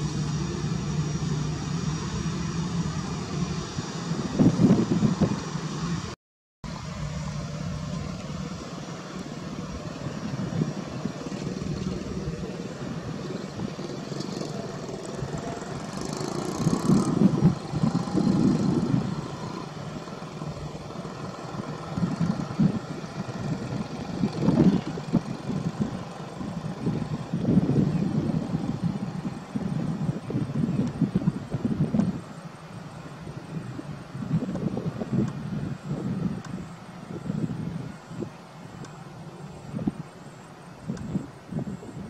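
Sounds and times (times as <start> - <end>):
jet engines taxiing: 0.0 - 42.0.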